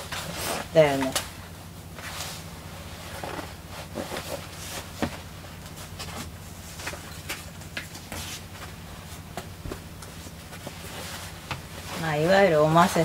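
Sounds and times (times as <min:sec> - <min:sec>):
shuffling steps: 0:00.0 - 0:13.0
steady low hum: 0:00.0 - 0:13.0
fabric rustling: 0:02.0 - 0:13.0.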